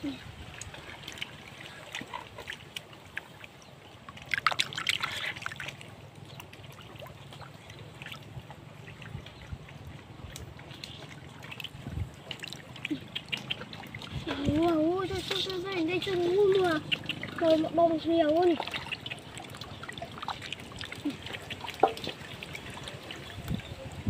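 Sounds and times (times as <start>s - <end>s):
muddy water splashing: 0.0s - 24.0s.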